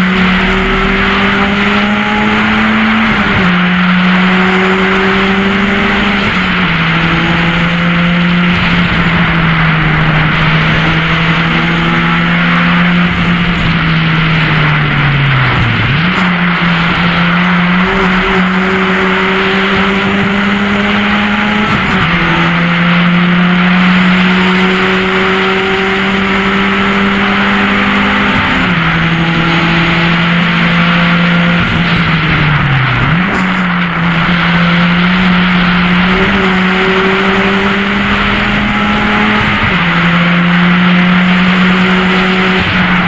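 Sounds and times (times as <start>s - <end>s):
car engine at high revs: 0.0s - 43.0s.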